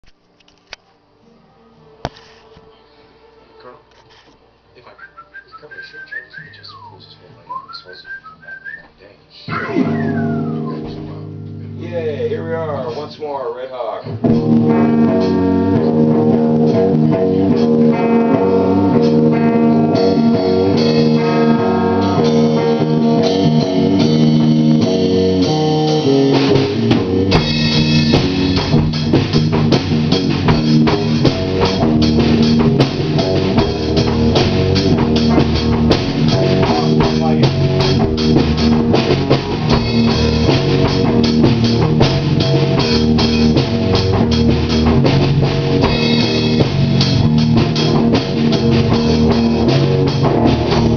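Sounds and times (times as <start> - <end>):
drum kit: 9.4 - 50.9
guitars playing: 9.4 - 50.9
bass guitar: 9.5 - 50.9.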